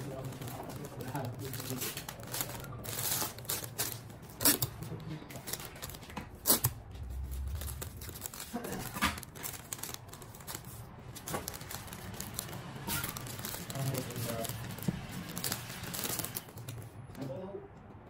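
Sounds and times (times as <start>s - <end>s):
wrapping paper crinkling: 0.0s - 17.0s.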